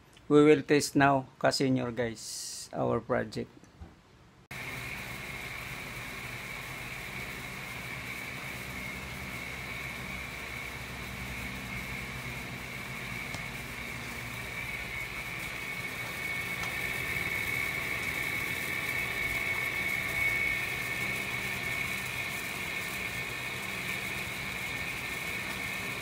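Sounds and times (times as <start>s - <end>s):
blower fan running with whine: 4.5s - 26.0s.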